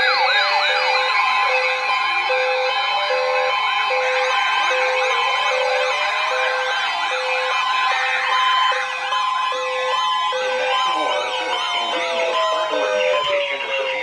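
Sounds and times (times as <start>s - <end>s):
warbling siren sweeps: 0.0s - 14.0s.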